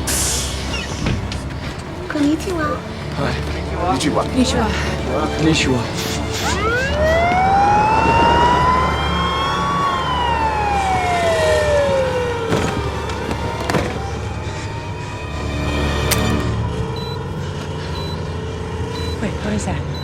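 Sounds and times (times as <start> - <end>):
siren wailing: 0.0 - 19.8.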